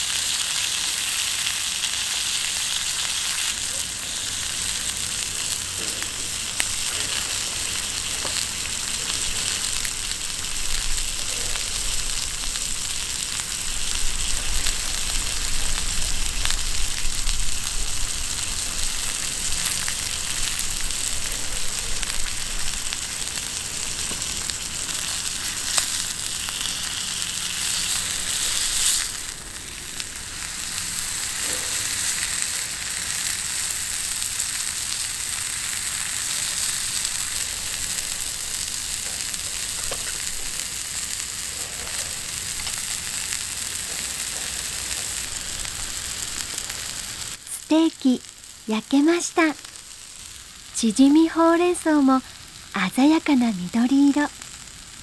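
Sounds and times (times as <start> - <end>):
steak sizzling in a skillet: 0.0 - 55.0.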